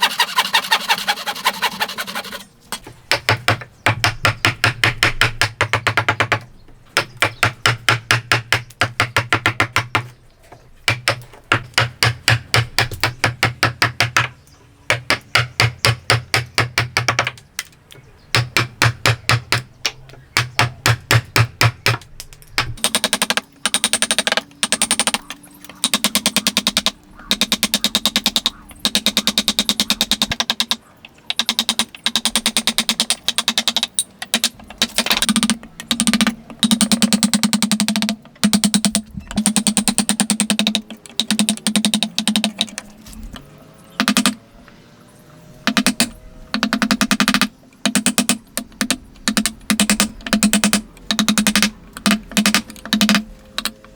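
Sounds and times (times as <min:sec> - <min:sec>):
rapid hammer strikes on wood: 0:03.1 - 0:06.4, 0:07.0 - 0:10.1, 0:10.9 - 0:14.3, 0:14.9 - 0:17.4, 0:18.3 - 0:19.7, 0:20.4 - 0:22.0, 0:22.6 - 0:42.7, 0:44.0 - 0:44.4, 0:45.7 - 0:53.7.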